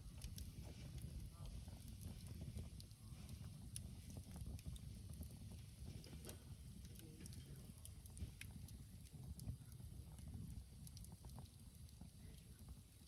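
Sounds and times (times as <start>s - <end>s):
campfire crackles and pops: 0.0s - 13.0s
low steady rumble: 0.0s - 13.0s.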